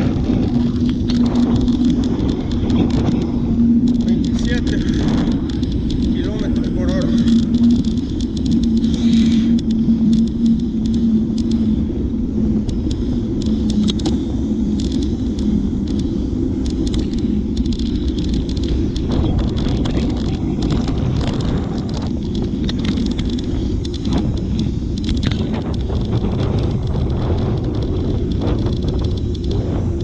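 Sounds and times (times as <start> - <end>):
small clicks and rattles: 0.0 - 11.8, 12.6 - 30.0
bicycle road noise: 0.0 - 30.0
wind: 0.0 - 30.0.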